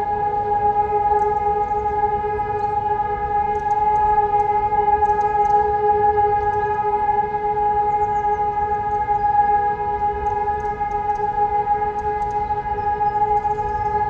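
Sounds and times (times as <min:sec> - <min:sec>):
electronic siren steady tone: 0:00.0 - 0:14.0.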